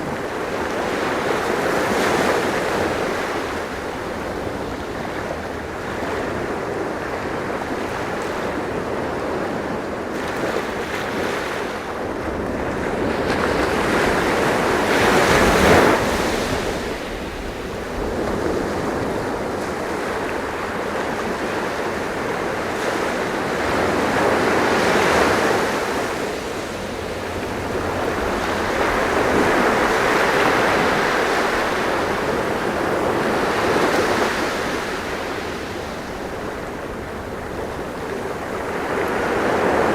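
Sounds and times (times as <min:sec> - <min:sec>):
ocean waves breaking: 0:00.0 - 0:39.9
wind: 0:00.0 - 0:39.9.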